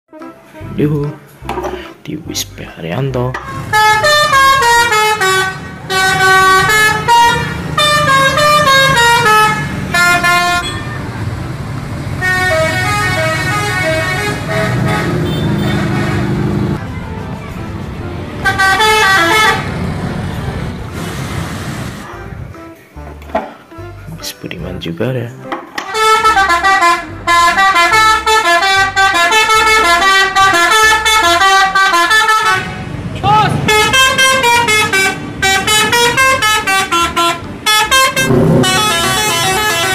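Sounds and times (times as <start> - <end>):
musical bus horn melody: 0.1 - 1.9, 3.4 - 11.5, 12.1 - 21.0, 25.8 - 39.9
low traffic noise: 0.7 - 24.0, 25.5 - 39.9.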